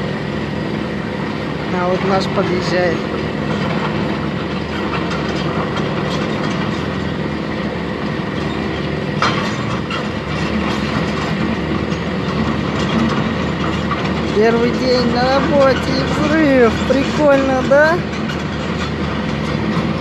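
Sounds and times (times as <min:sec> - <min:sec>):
heavy vehicle engine drone: 0:00.0 - 0:20.0.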